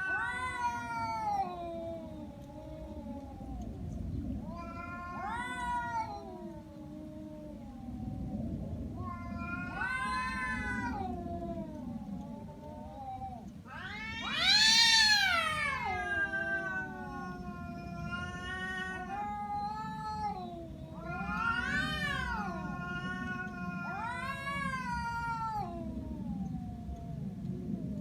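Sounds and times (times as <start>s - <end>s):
cat yowling: 0.0s - 3.6s, 4.4s - 8.2s, 9.0s - 27.2s.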